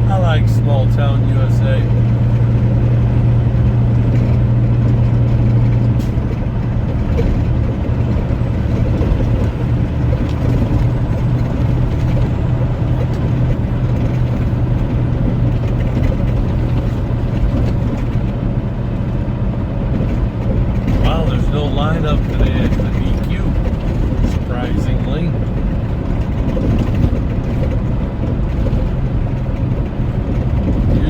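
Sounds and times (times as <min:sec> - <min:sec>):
road noise: 0:00.0 - 0:31.0
truck diesel engine running: 0:00.0 - 0:31.0.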